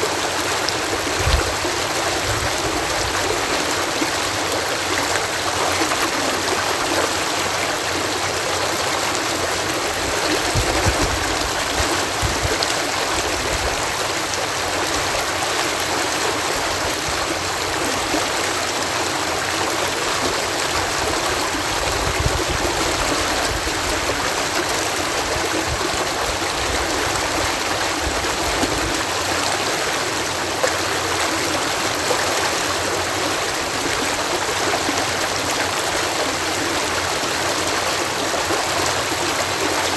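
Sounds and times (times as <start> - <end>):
water rushing through lock: 0.0 - 39.9.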